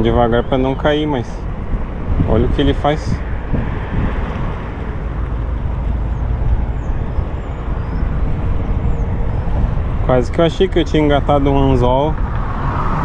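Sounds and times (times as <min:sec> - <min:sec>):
low rumbling outdoor noise: 0:00.0 - 0:13.0.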